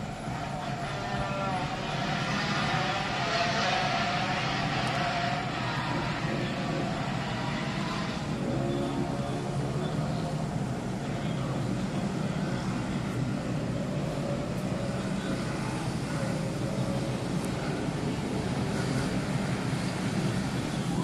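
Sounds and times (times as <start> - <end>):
traffic: 0.0 - 21.0.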